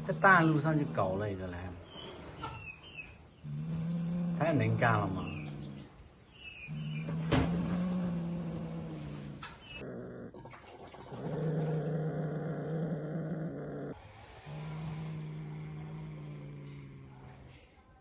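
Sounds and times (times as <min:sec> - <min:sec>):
cat growling low: 0:00.0 - 0:02.8, 0:03.4 - 0:06.0, 0:06.6 - 0:17.7.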